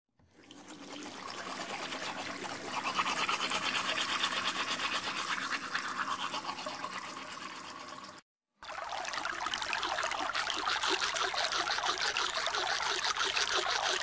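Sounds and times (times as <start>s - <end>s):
toothbrush scrubbing teeth: 0.5s - 8.2s, 9.7s - 14.0s.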